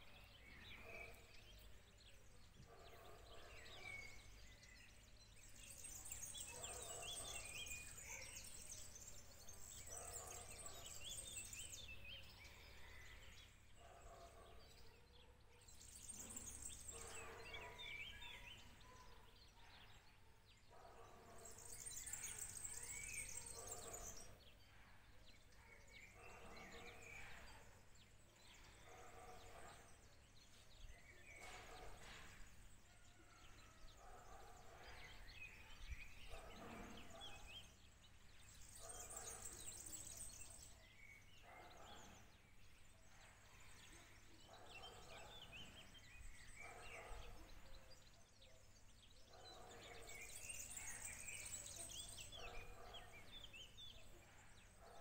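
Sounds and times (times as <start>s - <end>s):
faint birdsong: 0.0s - 55.0s.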